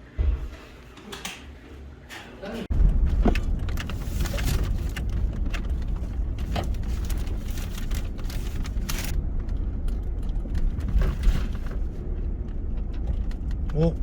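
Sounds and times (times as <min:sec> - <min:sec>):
car road and engine rumble: 0:02.6 - 0:14.0
knocks and rattles: 0:02.7 - 0:14.0.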